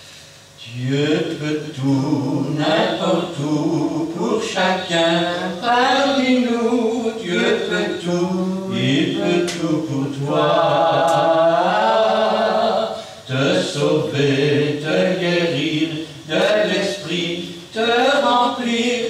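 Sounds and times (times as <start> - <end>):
hymn singing: 0.6 - 19.0
man singing lead: 0.6 - 19.0.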